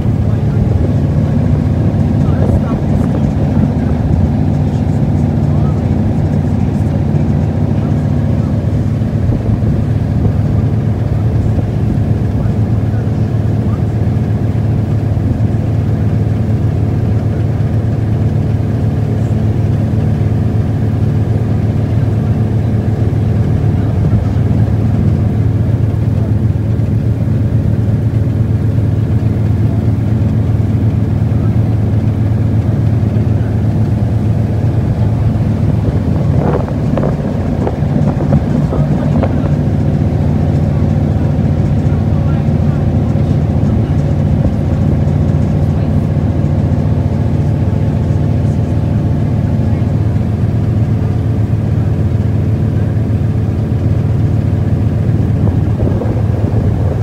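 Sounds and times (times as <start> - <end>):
boat engine drone: 0.0 - 57.0.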